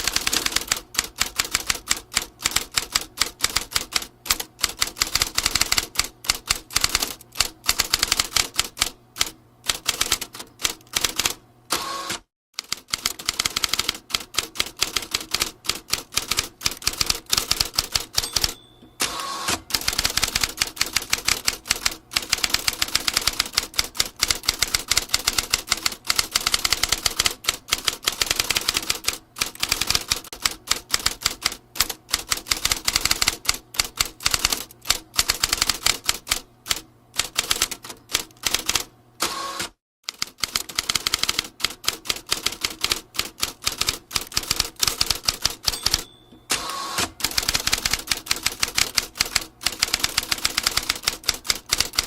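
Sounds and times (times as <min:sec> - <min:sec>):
manual typewriter typing: 0:00.0 - 0:11.4, 0:12.0 - 0:38.9, 0:39.6 - 0:52.0.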